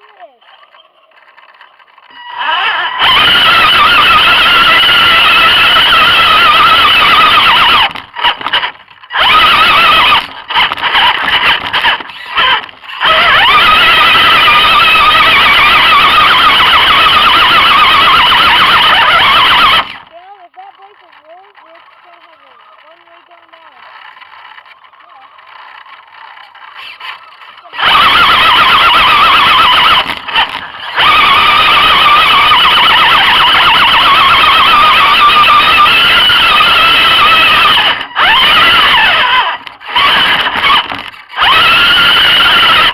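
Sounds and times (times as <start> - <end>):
electric motor and gears whining: 0.0 - 42.9.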